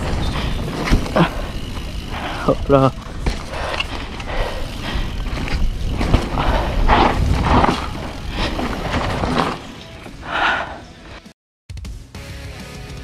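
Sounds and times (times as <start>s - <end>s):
bike tyres on dirt: 0.0s - 11.3s.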